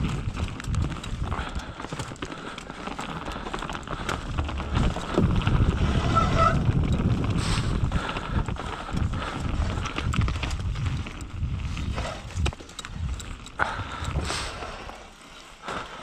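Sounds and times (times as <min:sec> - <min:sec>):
bike rattling: 0:00.0 - 0:16.0
bike tyres clattering on boardwalk: 0:00.0 - 0:16.0.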